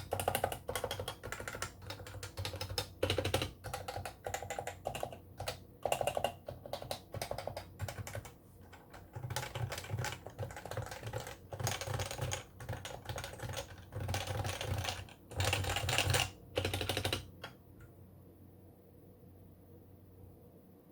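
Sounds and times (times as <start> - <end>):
keyboard typing: 0.0 - 17.6.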